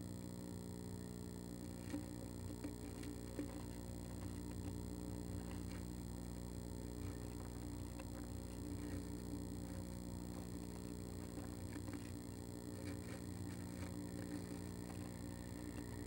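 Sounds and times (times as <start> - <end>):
steady electrical hum: 0.0 - 16.0
bird scratching on wood shavings: 1.6 - 16.0.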